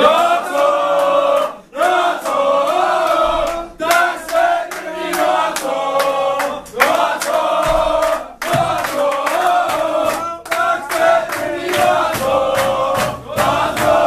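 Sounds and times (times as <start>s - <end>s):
hand claps: 0.0s - 14.0s
men chanting loudly: 0.0s - 14.0s.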